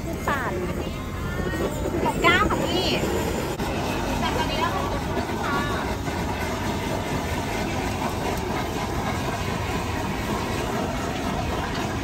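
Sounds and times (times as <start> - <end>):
busy market background noise: 0.0 - 12.0.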